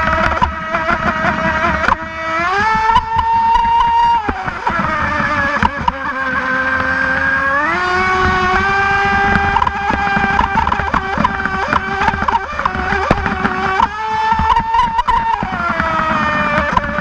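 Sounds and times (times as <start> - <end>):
electric motor high whine: 0.0 - 17.0.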